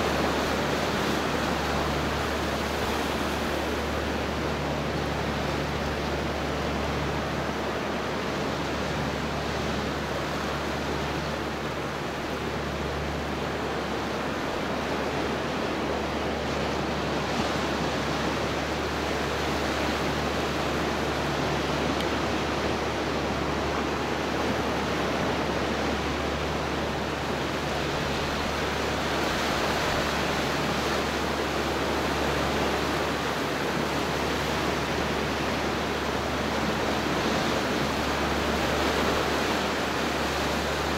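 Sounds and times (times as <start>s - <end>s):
surf rushing on rocky shore: 0.0s - 40.9s.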